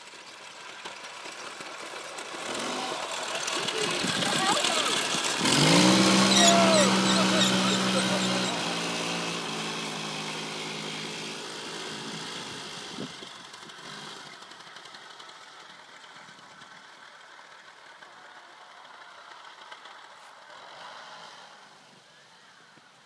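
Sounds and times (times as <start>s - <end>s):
go-kart engine driving away: 0.0s - 23.0s.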